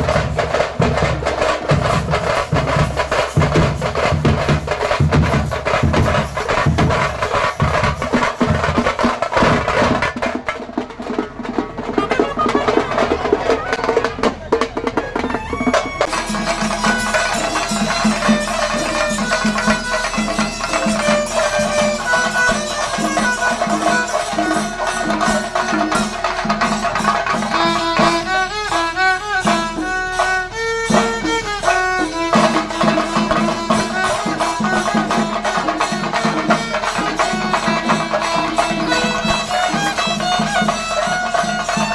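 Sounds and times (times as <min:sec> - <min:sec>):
drums beating: 0:00.0 - 0:41.9
folk melody instrument: 0:00.0 - 0:41.9.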